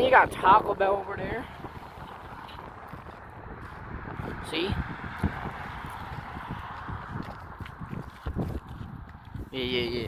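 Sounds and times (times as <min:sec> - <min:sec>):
footsteps on sidewalk: 0:00.0 - 0:10.0
street noise: 0:00.0 - 0:10.0.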